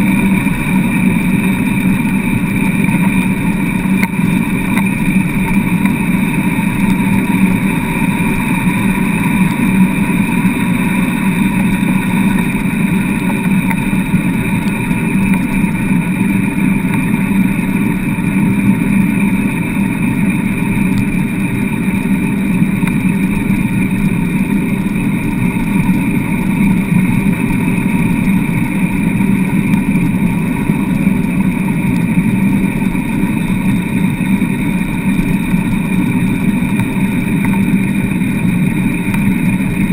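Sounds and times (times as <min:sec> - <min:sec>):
frame and wheels humming: 0:00.0 - 0:39.9
wheels rolling over sand: 0:00.0 - 0:39.9.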